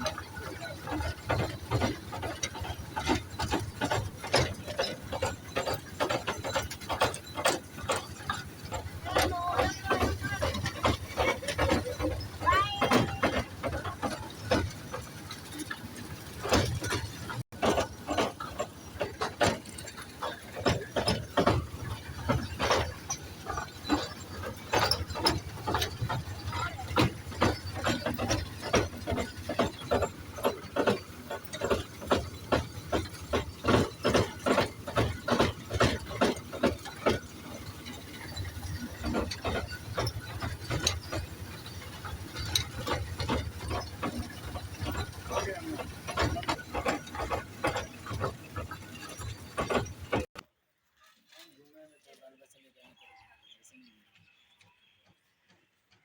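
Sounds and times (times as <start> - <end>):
toy train wheels clacking: 0.0 - 50.3.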